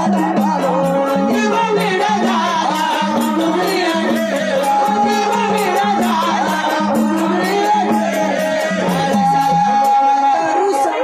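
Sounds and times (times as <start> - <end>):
jingling rattle percussion: 0.0 - 10.3
drum: 0.0 - 10.4
man singing through a microphone: 0.0 - 11.0.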